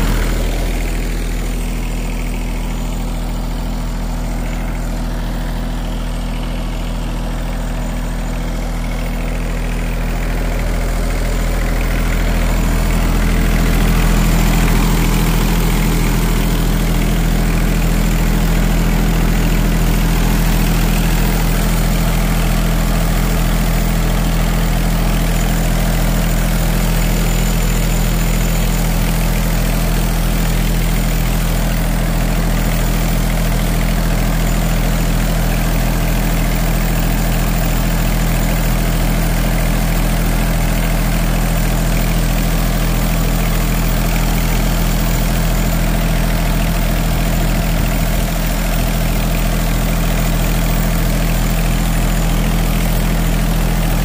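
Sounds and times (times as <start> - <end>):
small engine idling: 0.0 - 54.0.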